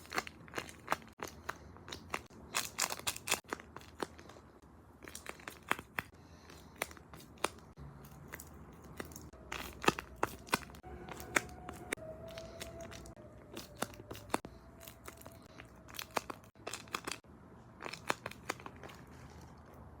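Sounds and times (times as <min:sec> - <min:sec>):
paper crinkling and crackling: 0:00.0 - 0:20.0.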